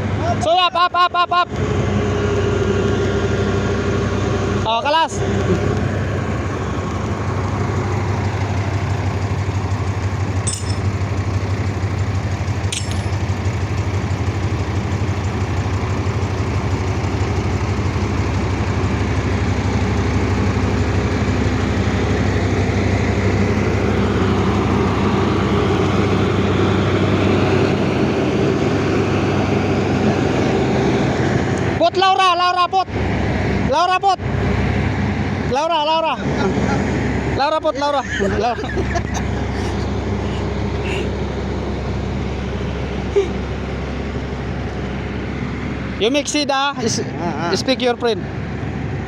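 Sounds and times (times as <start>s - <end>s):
excavator diesel engine running: 1.5s - 49.0s.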